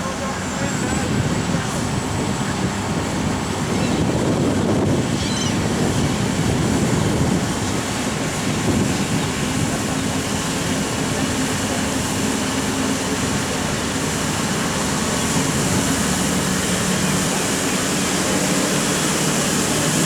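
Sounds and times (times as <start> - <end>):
diesel engine heavy rumble: 0.0 - 20.0.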